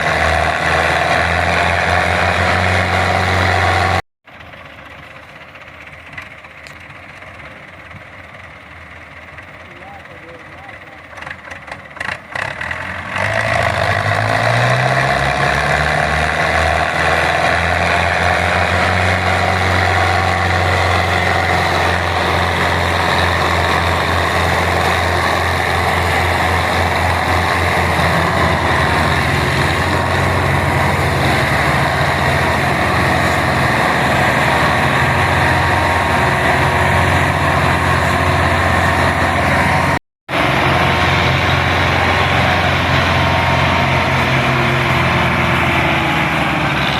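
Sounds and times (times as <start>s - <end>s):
tractor diesel engine revving: 0.0s - 46.9s.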